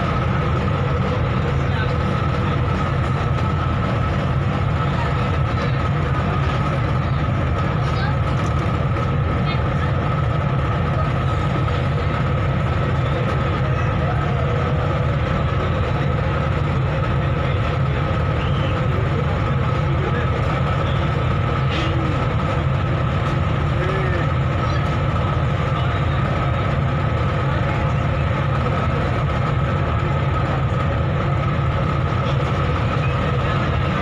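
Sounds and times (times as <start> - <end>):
constant high whine: 0.0 - 34.0
ferry engine droning: 0.0 - 34.0.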